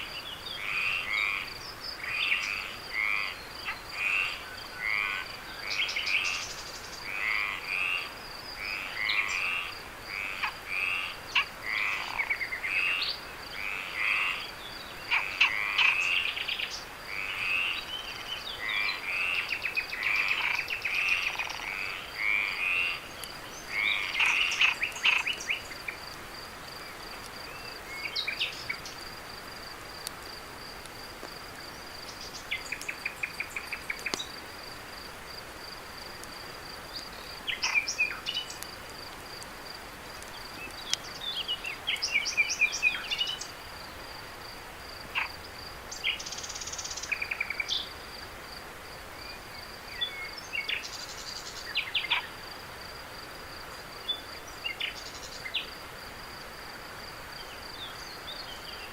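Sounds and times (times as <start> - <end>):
insect trill: 0.0 - 48.6, 49.2 - 58.9
frogs croaking: 0.0 - 58.9.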